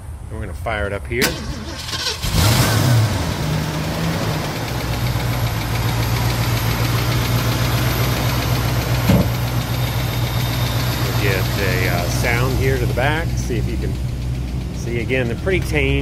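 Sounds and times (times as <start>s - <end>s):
car engine starting and idling: 1.0s - 16.0s.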